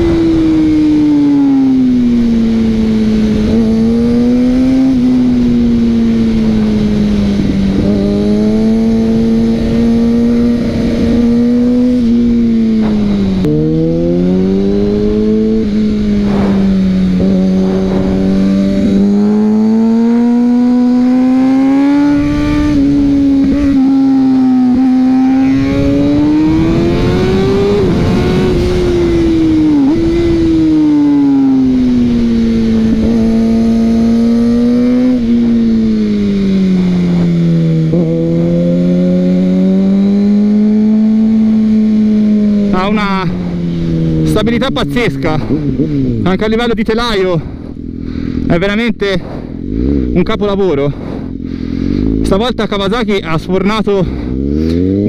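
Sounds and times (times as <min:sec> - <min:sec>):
wind rush: 0:00.0 - 0:40.3, 0:41.2 - 0:52.4
motorcycle engine revving: 0:00.0 - 0:55.0.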